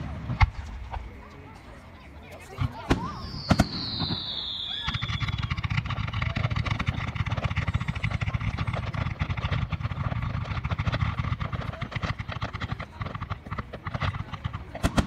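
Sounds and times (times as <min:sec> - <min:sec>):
fireworks bangs and crackling: 0:00.0 - 0:15.0
whistling firework: 0:02.4 - 0:15.0.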